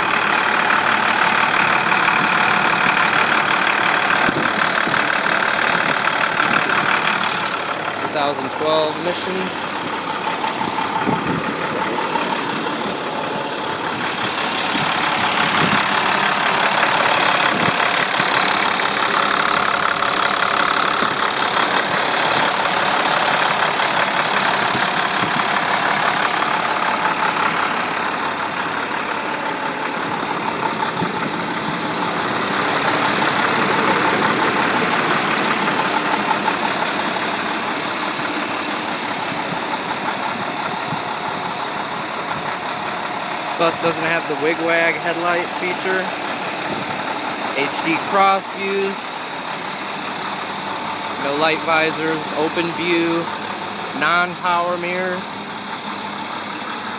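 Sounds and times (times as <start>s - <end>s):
diesel bus engine idling: 0.0s - 56.9s.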